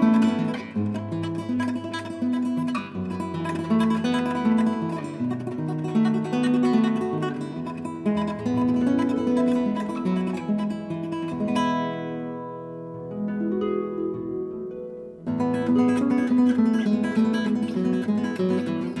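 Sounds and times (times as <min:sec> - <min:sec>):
acoustic guitar plucked melody: 0:00.0 - 0:19.0.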